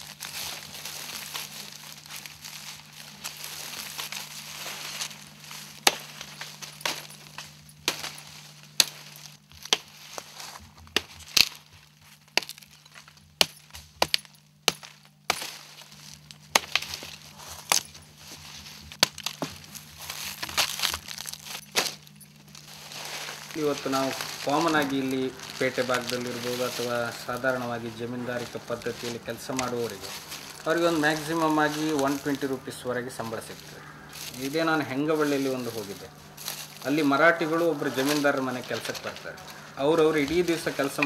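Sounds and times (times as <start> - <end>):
sticks cracking: 0.0 - 18.0, 18.8 - 41.0
leaves crunching underfoot: 0.0 - 41.0.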